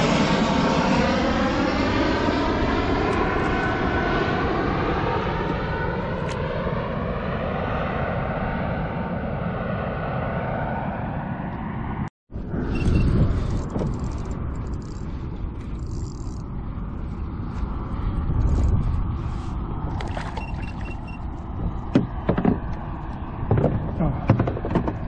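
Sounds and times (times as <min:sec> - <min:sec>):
airplane passing overhead: 0:00.0 - 0:25.0.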